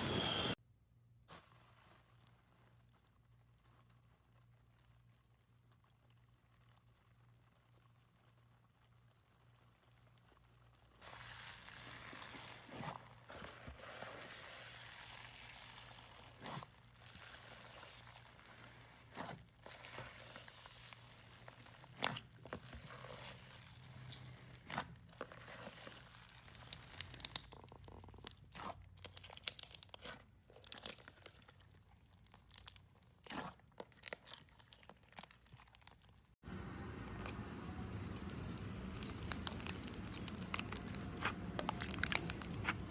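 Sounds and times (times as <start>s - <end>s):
slime squeezed by hand crunching: 1.2s - 36.4s, 37.0s - 42.9s.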